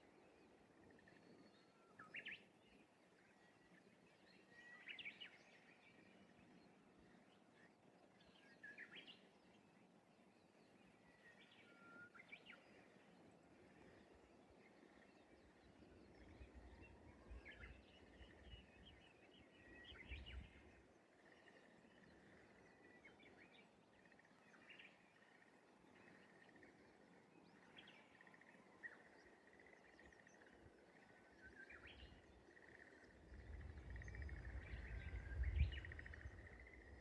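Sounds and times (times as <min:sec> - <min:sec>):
distant bird song: 0:00.0 - 0:37.0.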